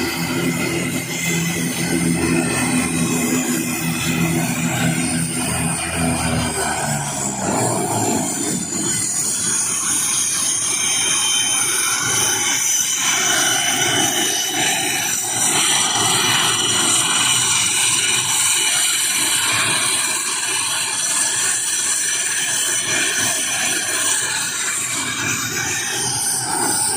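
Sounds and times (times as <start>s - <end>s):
aircraft engines running: 0.0s - 26.9s
high turbine whine: 0.0s - 26.9s.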